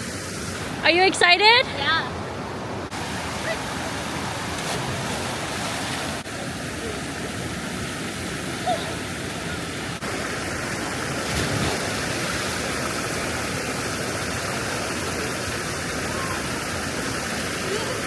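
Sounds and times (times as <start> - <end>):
waterfall rushing into pool: 0.0 - 0.9, 2.8 - 18.0.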